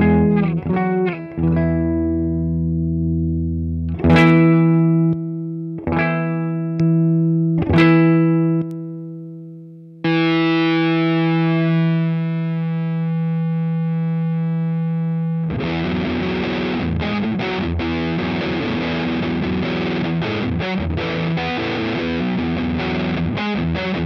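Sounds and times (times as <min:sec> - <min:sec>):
distorted electric guitar: 0:00.0 - 0:24.0.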